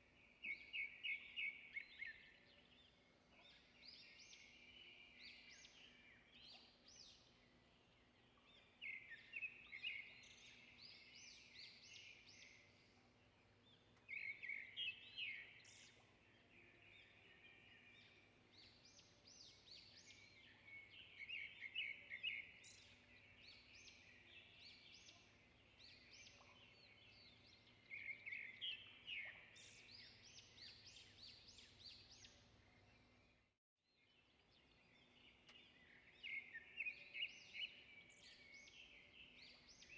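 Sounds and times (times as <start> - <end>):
faint birds chirping: 0.0 - 39.9.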